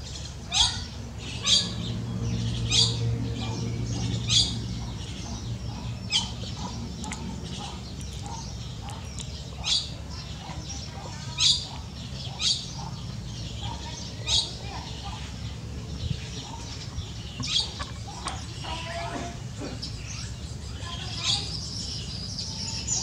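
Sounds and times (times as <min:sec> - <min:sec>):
soft bird chattering: 0:00.0 - 0:23.0.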